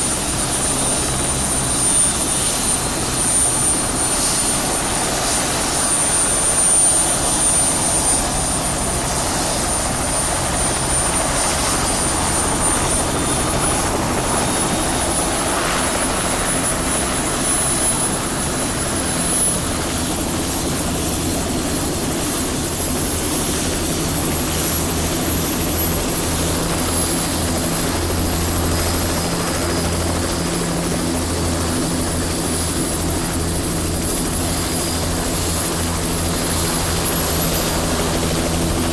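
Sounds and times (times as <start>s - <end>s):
helicopter rotor beat: 0.0s - 38.9s.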